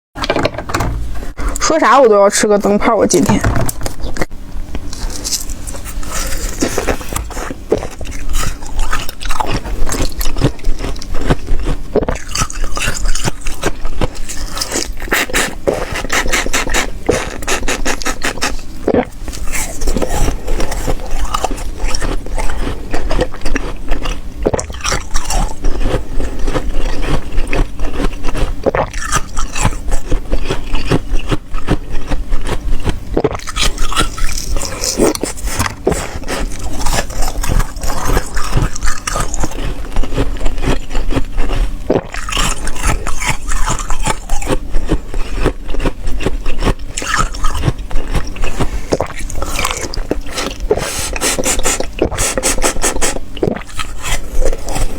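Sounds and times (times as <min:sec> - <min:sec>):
ice being chewed: 0:03.8 - 0:54.9.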